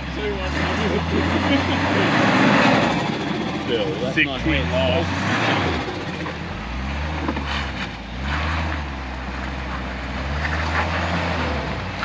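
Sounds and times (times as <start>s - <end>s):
engine working under load: 0.0s - 12.0s.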